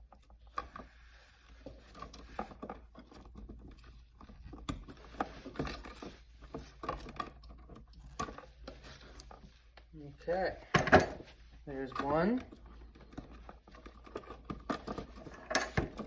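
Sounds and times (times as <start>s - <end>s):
cable rustling: 0.0s - 16.0s.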